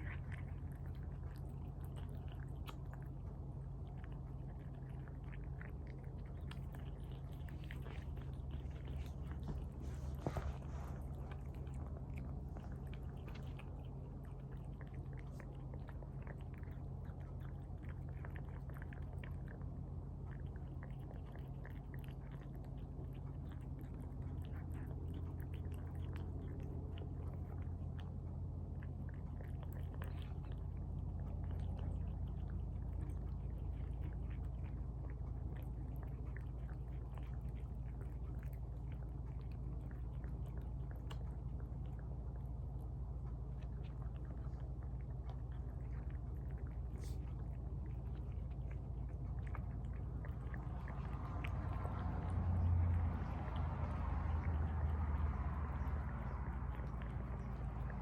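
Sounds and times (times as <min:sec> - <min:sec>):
cats chewing and lapping: 0:00.0 - 0:58.0
steady low hum: 0:00.0 - 0:58.0.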